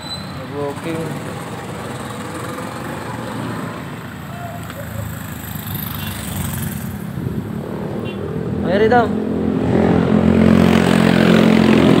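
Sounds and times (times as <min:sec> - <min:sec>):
street noise hum: 0:00.0 - 0:12.0.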